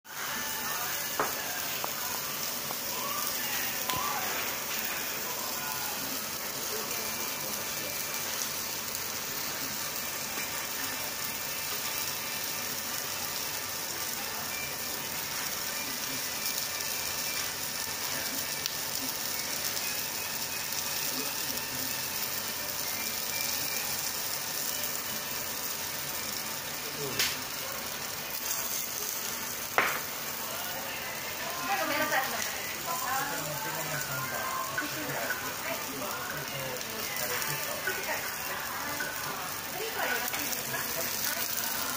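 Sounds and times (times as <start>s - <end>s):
meat sizzling on hot plates: 0.1s - 41.9s.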